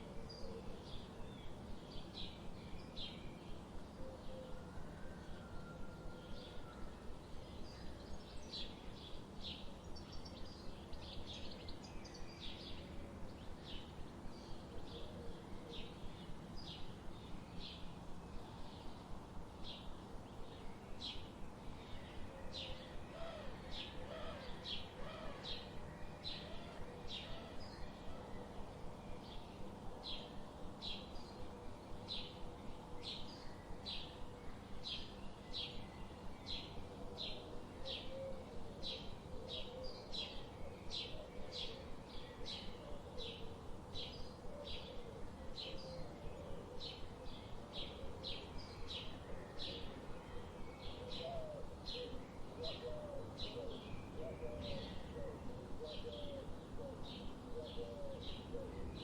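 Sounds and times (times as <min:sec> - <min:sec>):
low background hiss: 0:00.0 - 0:59.0.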